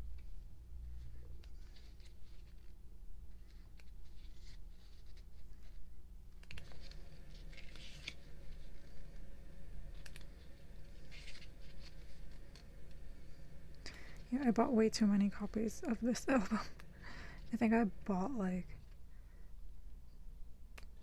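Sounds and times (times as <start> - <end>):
paper pages rustling: 0.2 - 17.6.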